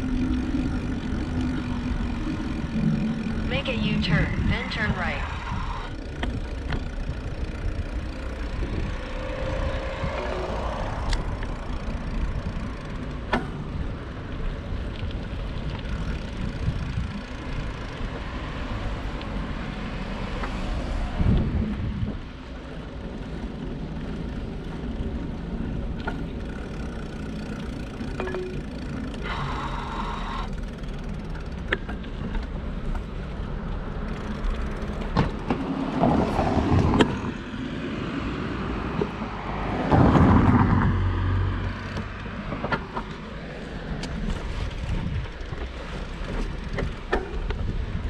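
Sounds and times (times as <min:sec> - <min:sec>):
bicycle clicks and rattles: 0:00.0 - 0:37.4, 0:41.6 - 0:48.0
wind and road noise: 0:00.0 - 0:48.0.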